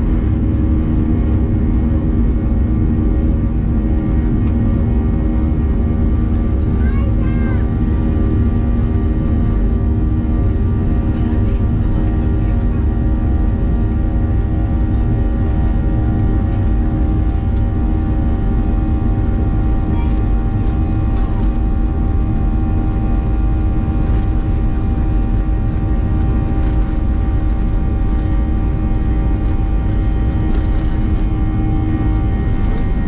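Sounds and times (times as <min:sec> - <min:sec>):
jet engines running from cabin: 0:00.0 - 0:33.0.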